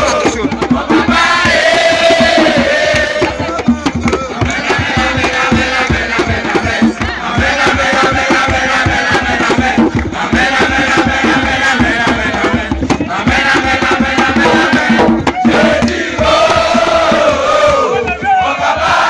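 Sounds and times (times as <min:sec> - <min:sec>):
group singing a chant: 0:00.0 - 0:19.0
rhythmic drumming: 0:00.0 - 0:19.0.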